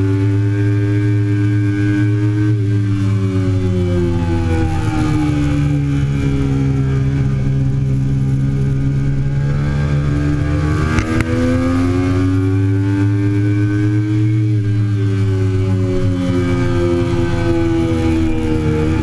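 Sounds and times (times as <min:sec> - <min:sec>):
motorcycle engine under load: 0:00.0 - 0:19.0.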